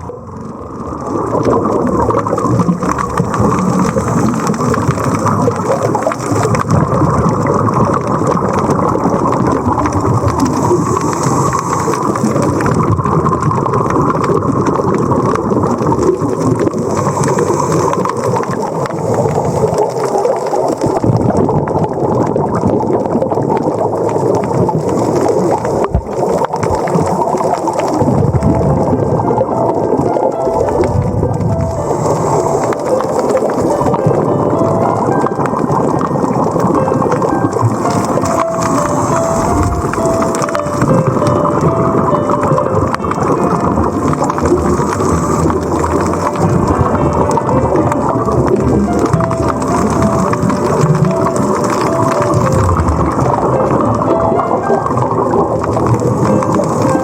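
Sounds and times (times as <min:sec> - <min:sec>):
water rushing and bubbling: 0:00.0 - 0:57.0.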